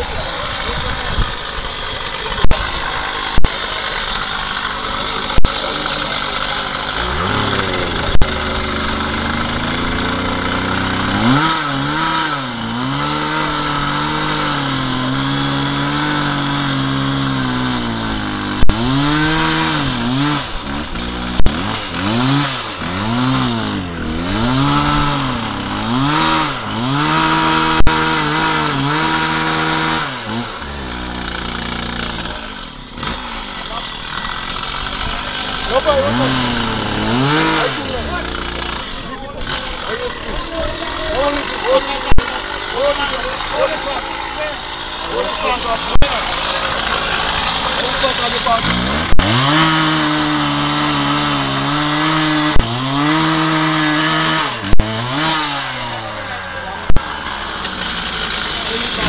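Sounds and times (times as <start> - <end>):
petrol cut-off saw engine revving: 0.0 - 59.0
saw disc grinding metal: 0.0 - 59.0.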